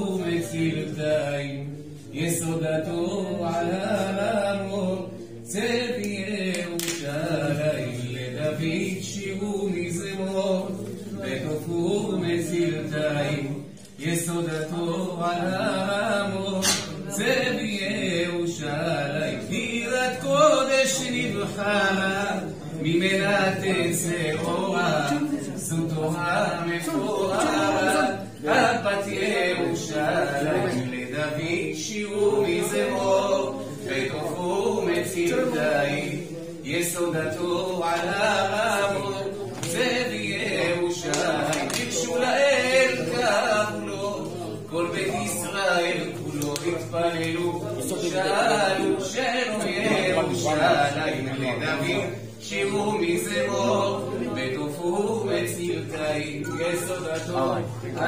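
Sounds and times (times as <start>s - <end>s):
man singing unaccompanied: 0.0s - 58.0s.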